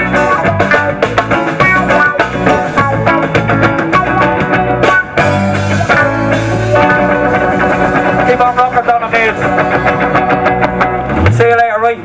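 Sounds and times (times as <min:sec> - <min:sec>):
bass notes: 0:00.0 - 0:12.0
drum kit: 0:00.0 - 0:12.0
electric guitars: 0:00.0 - 0:12.0.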